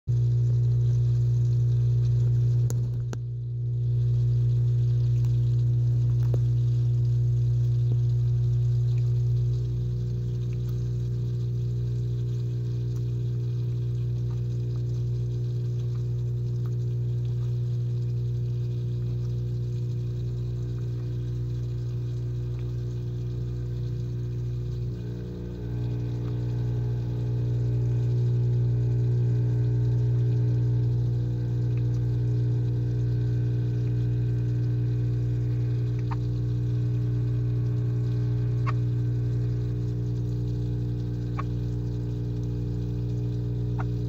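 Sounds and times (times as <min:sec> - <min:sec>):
low electrical hum: 0:00.1 - 0:44.0.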